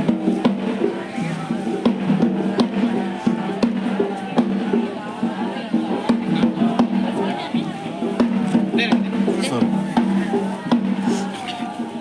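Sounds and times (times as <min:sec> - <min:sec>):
sharp drum strikes: 0:00.0 - 0:11.7.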